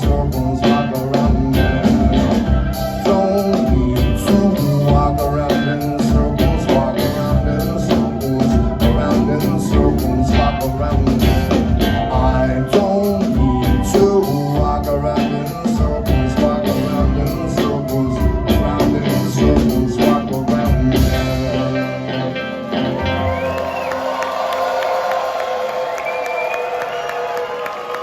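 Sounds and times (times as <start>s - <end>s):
bass guitar: 0.0s - 24.2s
drums: 0.0s - 28.0s.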